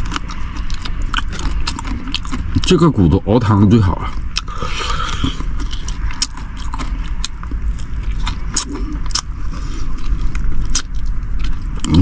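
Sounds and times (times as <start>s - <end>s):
chewing on a bone: 0.0s - 12.0s.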